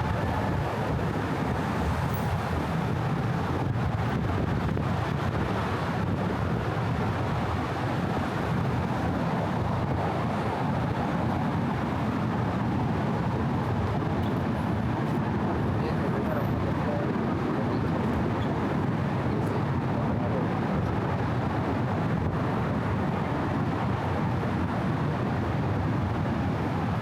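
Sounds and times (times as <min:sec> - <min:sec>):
steady traffic rumble: 0:00.0 - 0:27.0.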